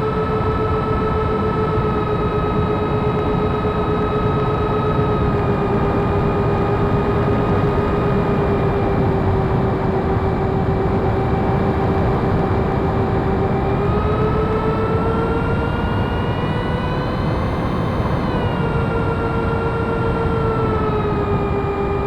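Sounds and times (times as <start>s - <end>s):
electric fans whining: 0.0s - 22.0s.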